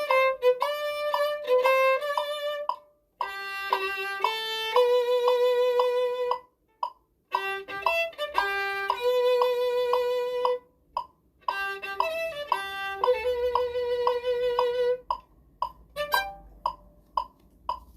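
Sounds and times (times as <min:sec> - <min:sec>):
violin slow melody: 0:00.0 - 0:10.8, 0:11.4 - 0:17.1.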